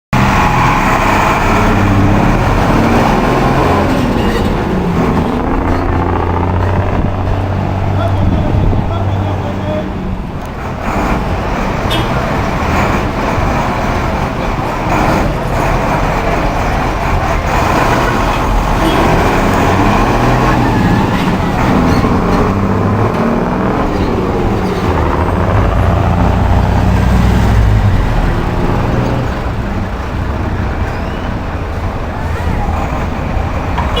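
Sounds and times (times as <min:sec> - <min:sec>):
bus diesel engine revving: 0:00.2 - 0:34.0.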